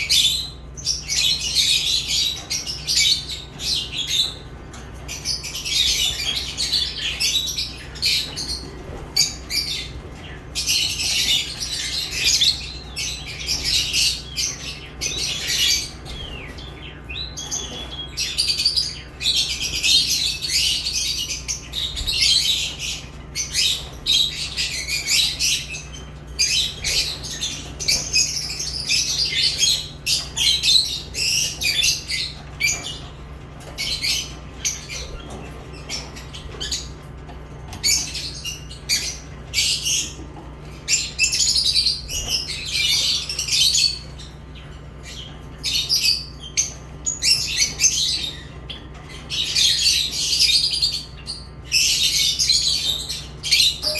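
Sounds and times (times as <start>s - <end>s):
lovebirds chirping: 0.0s - 53.9s.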